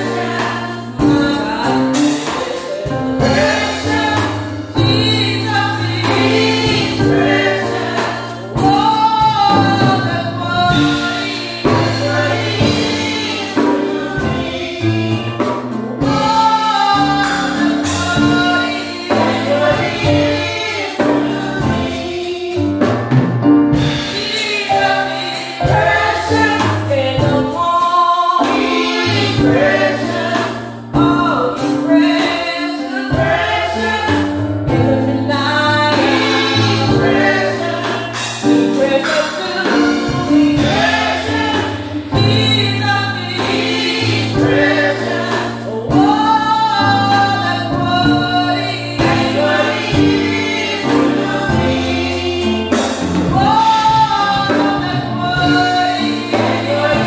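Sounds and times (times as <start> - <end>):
group voices singing: 0.0 - 22.9, 23.8 - 57.0
woman singing into microphone: 0.0 - 22.9, 24.2 - 57.0.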